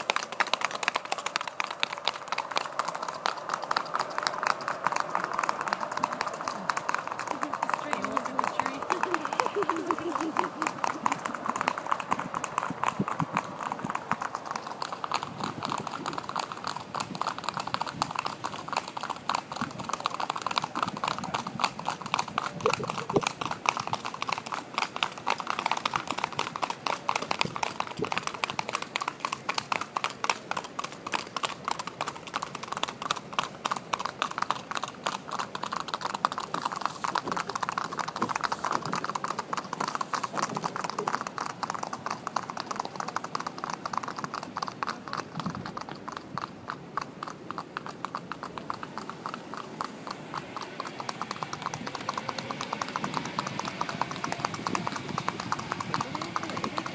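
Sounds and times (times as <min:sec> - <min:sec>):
horse hooves clip-clopping on pavement: 0:00.0 - 0:56.9.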